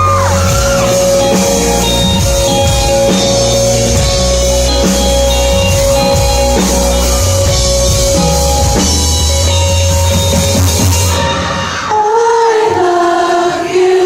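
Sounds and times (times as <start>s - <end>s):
bass guitar: 0.0s - 11.8s
drum kit: 0.0s - 11.9s
electric guitar: 0.0s - 12.0s.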